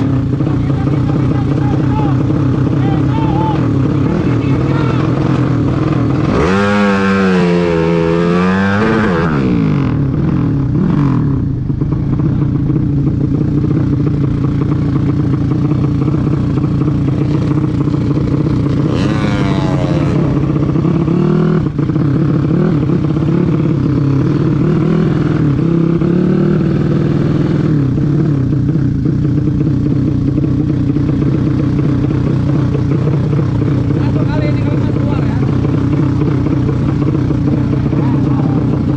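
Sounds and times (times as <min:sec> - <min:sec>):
vehicle engine running at low revs: 0:00.0 - 0:38.9.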